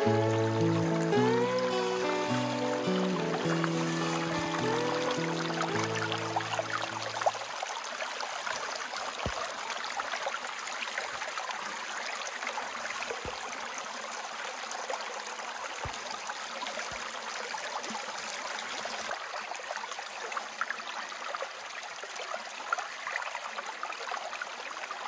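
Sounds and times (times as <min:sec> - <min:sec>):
brook babbling over stones: 0:00.0 - 0:25.0.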